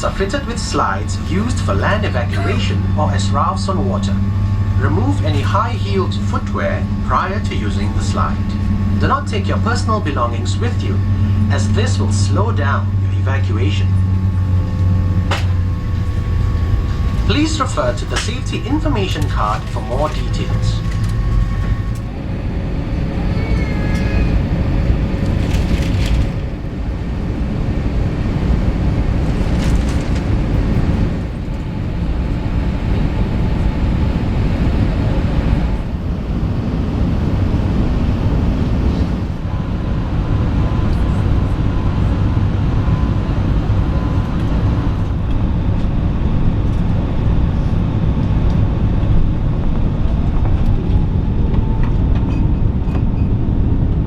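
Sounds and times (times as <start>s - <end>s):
aircraft cabin rumble: 0.0s - 54.0s.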